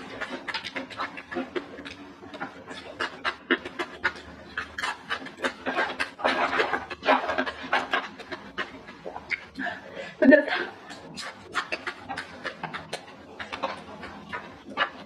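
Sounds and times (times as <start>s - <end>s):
chewing with wet mouth clicks: 0.0s - 15.0s
crispy fish crackling: 0.0s - 15.0s.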